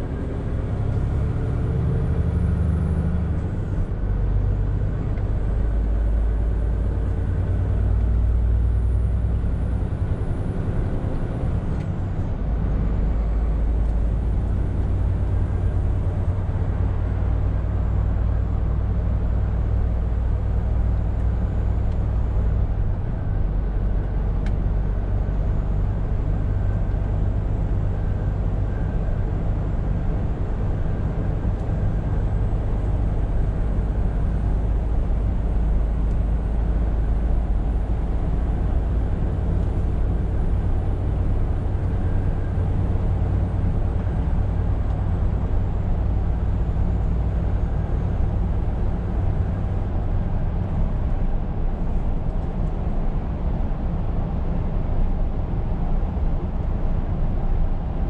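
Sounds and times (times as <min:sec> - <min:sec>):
truck diesel engine droning: 0:00.0 - 0:54.8
road and tyre noise: 0:00.0 - 0:58.0.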